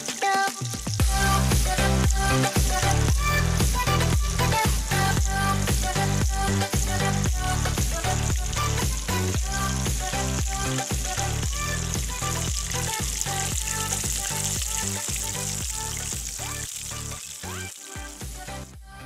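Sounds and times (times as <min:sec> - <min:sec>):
oil sizzling: 0:00.0 - 0:18.7
background music with beat: 0:00.0 - 0:19.0.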